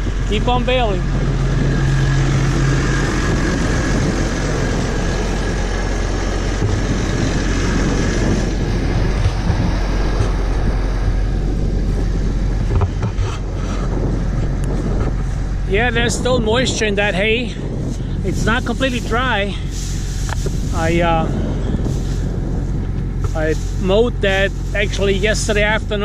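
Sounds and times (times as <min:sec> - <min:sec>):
baler machine baling hay: 0:00.0 - 0:26.0
tractor engine running: 0:00.0 - 0:26.0.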